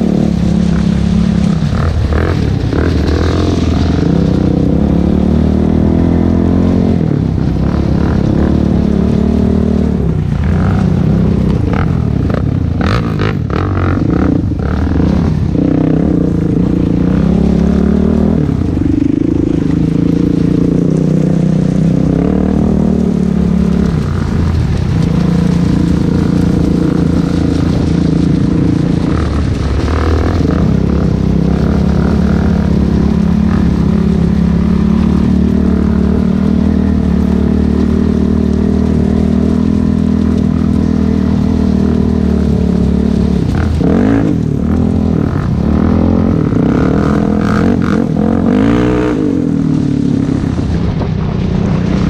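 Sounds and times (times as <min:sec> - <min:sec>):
quad engine running: 0:00.0 - 0:52.0.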